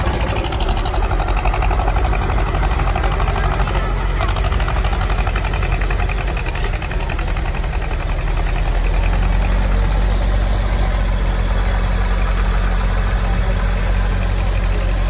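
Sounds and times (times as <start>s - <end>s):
diesel tractor engines droning: 0.0s - 15.0s.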